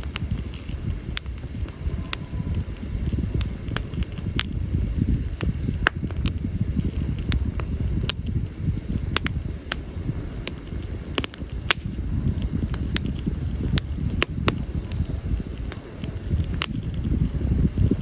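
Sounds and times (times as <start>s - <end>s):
campfire pops and crackles: 0.0s - 18.0s
steady low rumble: 0.0s - 18.0s.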